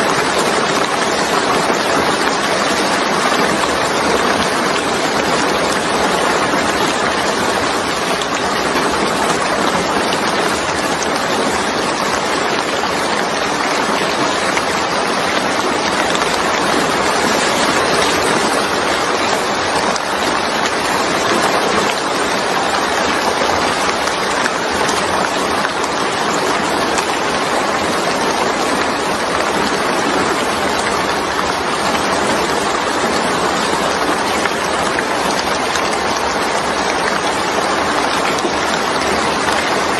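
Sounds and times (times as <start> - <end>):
steady rain on puddles: 0.0 - 39.9.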